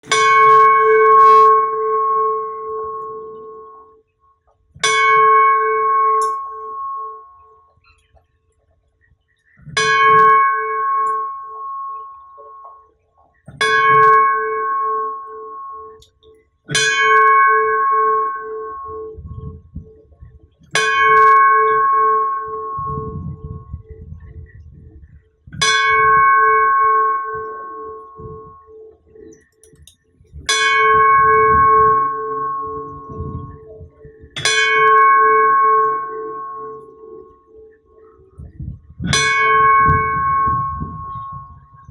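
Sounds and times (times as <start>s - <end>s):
temple bell ringing: 0.0s - 4.0s, 4.8s - 8.0s, 9.8s - 12.9s, 13.5s - 19.8s, 20.7s - 24.5s, 25.6s - 41.9s.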